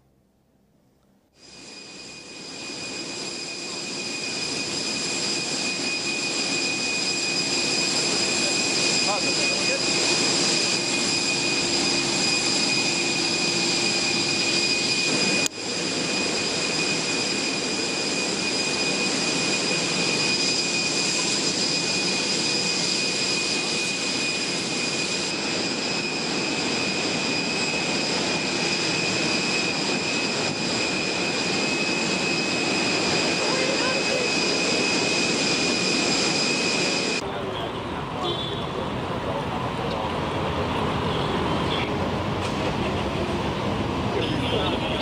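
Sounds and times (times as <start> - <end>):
jet engines running: 1.3 - 45.0.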